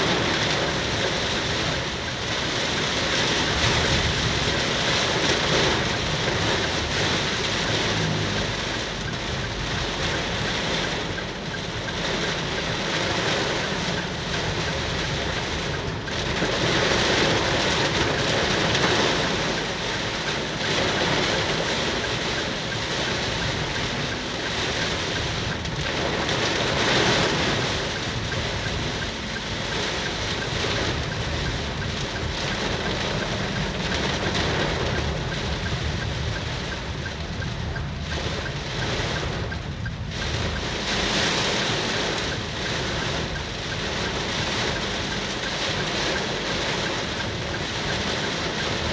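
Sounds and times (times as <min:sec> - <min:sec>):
heavy rain and wind: 0:00.0 - 0:48.9
road traffic: 0:00.0 - 0:48.9.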